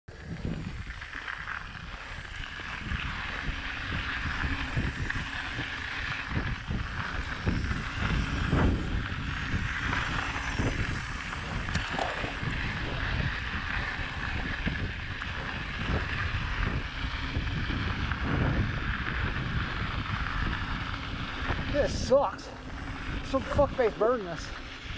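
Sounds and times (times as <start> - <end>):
wind buffeting microphone: 0.1 - 24.9.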